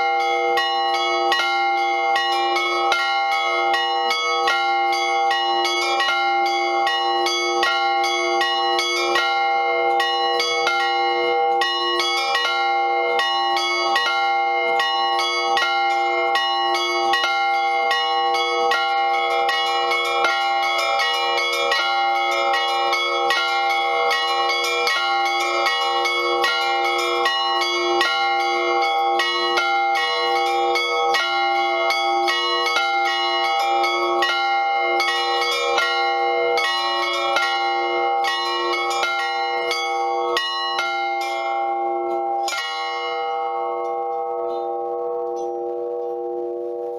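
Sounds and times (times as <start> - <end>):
bells ringing: 0.0 - 46.9.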